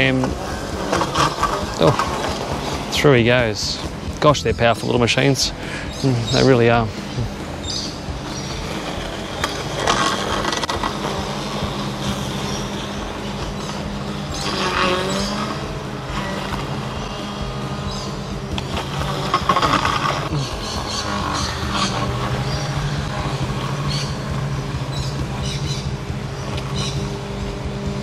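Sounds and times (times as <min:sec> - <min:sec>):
robot lawn mower motors humming: 0:00.0 - 0:28.0.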